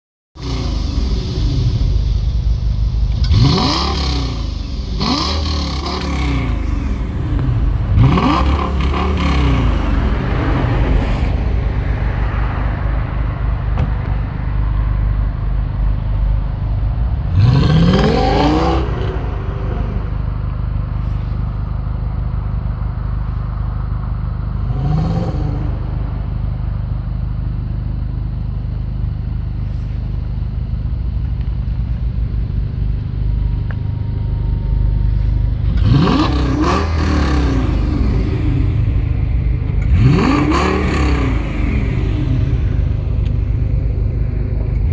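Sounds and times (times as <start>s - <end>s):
car engine idling and revving: 0.3s - 44.9s.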